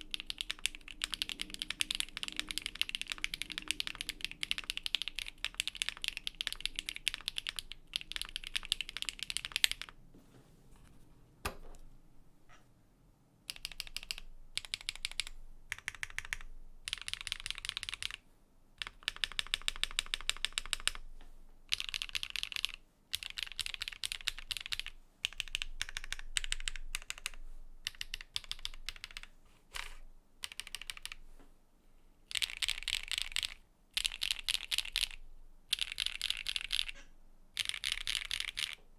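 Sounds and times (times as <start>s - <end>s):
mechanical keyboard typing: 0.0s - 10.0s, 13.5s - 18.2s, 18.8s - 21.0s, 21.7s - 31.2s, 32.3s - 38.8s.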